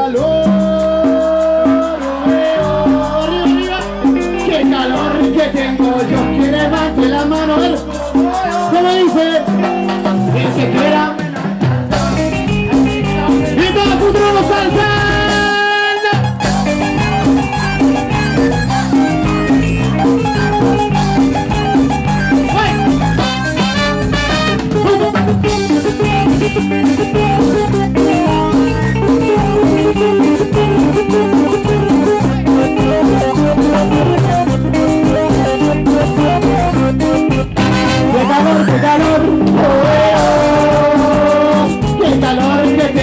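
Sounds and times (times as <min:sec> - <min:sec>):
bass: 0:00.0 - 0:43.0
live band dance music: 0:00.0 - 0:43.0.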